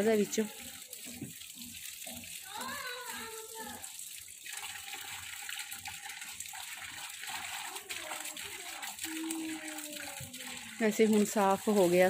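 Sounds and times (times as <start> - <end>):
hands washing greens in water: 0.0 - 12.0
tap water running into metal tub: 0.0 - 12.0.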